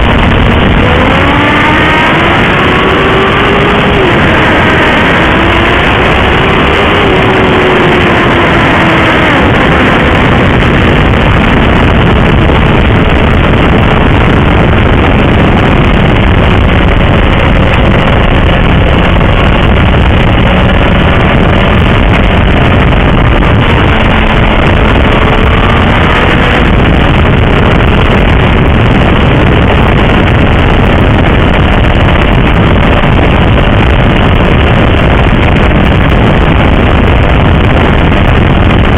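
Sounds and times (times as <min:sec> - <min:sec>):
motorcycle engine cruising: 0:00.0 - 0:38.9
wind noise on microphone: 0:00.0 - 0:38.9.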